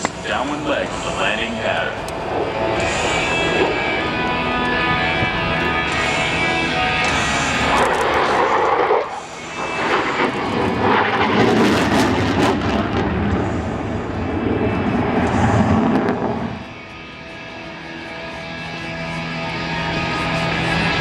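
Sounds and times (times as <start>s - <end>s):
fighter jet low pass: 0.0s - 21.0s.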